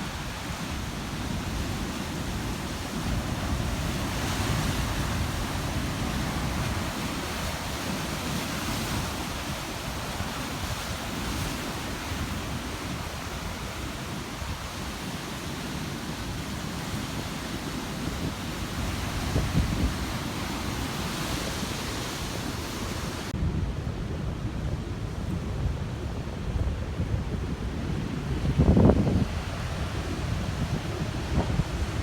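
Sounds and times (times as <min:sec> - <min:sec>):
ocean waves breaking on rocks: 0:00.0 - 0:32.0.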